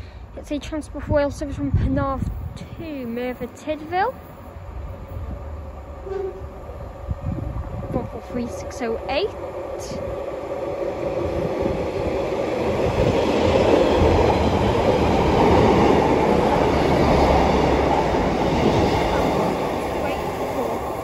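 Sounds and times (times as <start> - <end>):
train wheels rumbling: 2.0 - 21.0
diesel train passing: 2.2 - 21.0.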